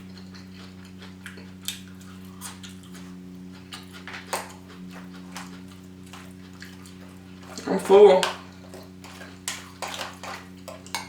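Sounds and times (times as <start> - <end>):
mouth clicks and chewing smacks: 0.0 - 11.0
steady low hum: 0.0 - 11.0.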